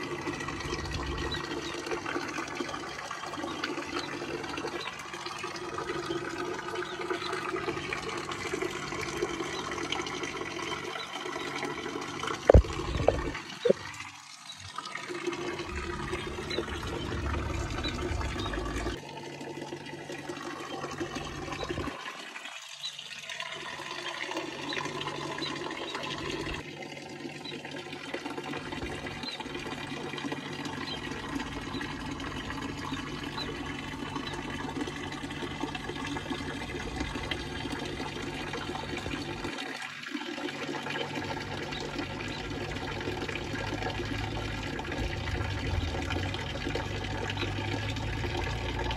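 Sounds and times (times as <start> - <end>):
fountain splashing into basin: 0.0 - 48.9.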